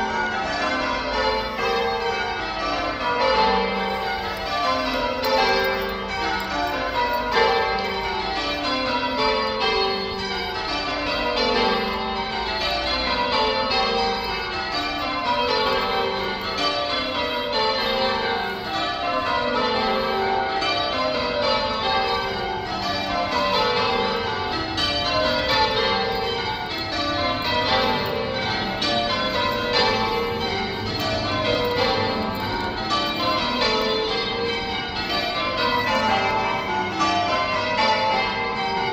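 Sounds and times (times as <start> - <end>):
church bells change-ringing: 0.0 - 38.9.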